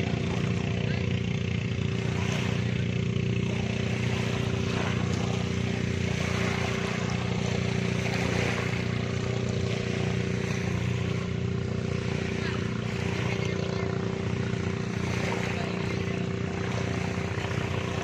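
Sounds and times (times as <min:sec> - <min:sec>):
engine drone: 0:00.0 - 0:18.0
small waves on pebbly shore: 0:00.0 - 0:18.0.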